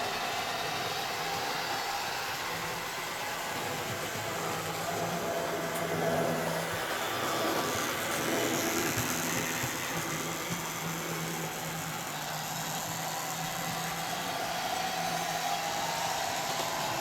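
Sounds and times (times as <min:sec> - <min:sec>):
small wheels on rail: 0:00.0 - 0:17.0
electric motor hum: 0:00.1 - 0:17.0.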